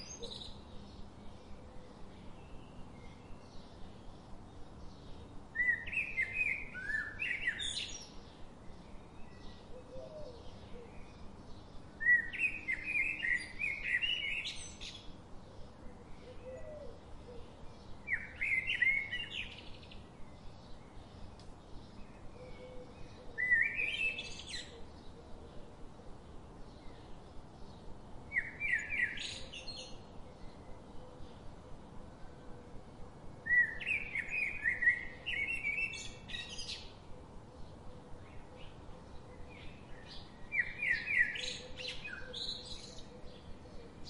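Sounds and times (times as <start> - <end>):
soft background hiss: 0.0 - 44.0
songbird singing: 0.0 - 44.0.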